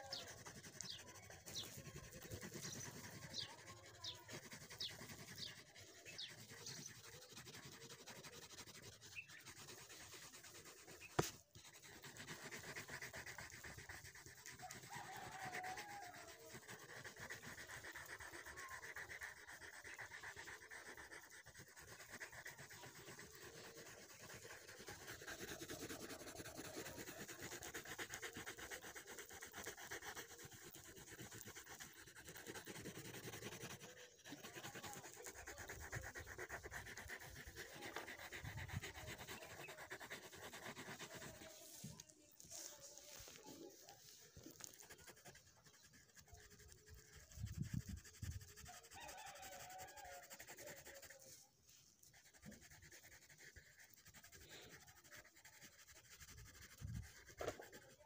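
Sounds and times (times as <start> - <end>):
pencil shading on paper: 0.0 - 58.0.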